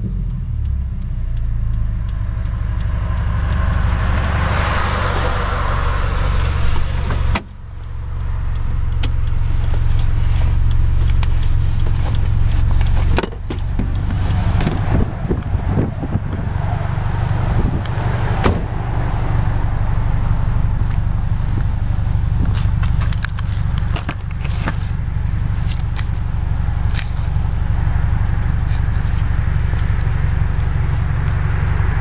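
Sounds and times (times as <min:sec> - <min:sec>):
car exhaust drone from inside: 0:00.0 - 0:32.0.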